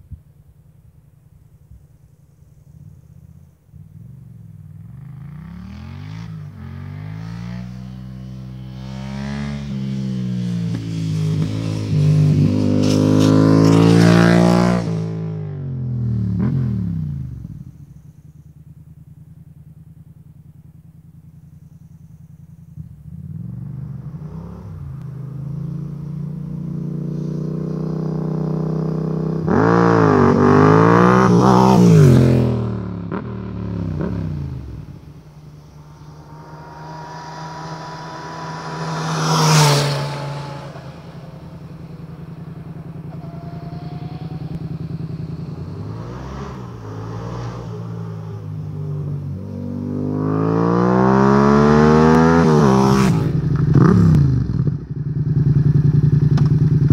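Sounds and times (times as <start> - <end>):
motorcycle engine revving: 2.5 - 56.9.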